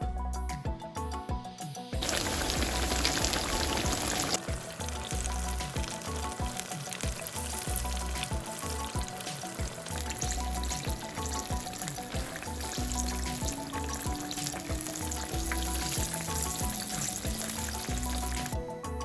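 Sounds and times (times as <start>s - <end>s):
background music with beat: 0.0s - 19.0s
food deep-frying in oil: 2.0s - 18.6s.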